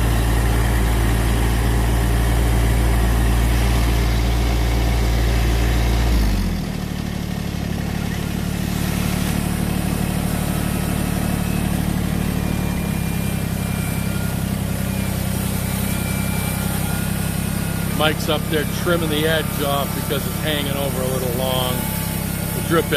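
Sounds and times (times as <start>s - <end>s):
vehicle engine running: 0.0s - 22.9s.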